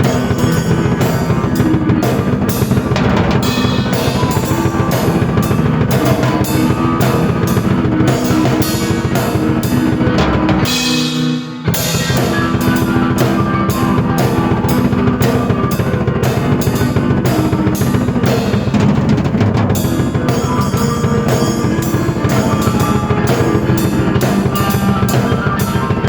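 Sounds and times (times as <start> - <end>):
drum kit beat: 0.0 - 26.0
keyboard chords: 0.0 - 26.0.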